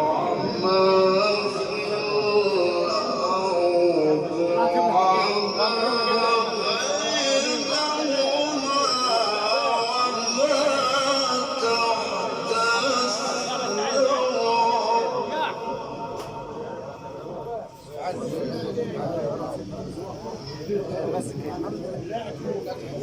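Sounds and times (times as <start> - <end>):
man chanting melodically: 0.0 - 21.4.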